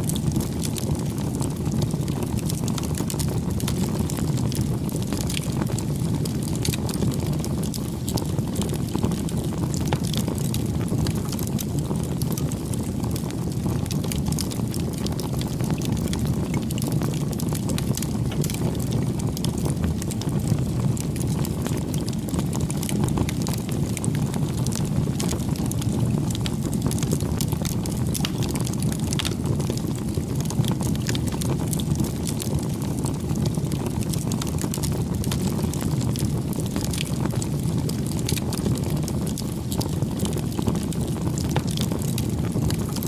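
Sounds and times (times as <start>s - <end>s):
campfire flames rumbling: 0.0s - 43.0s
fire crackles and pops: 0.0s - 43.0s.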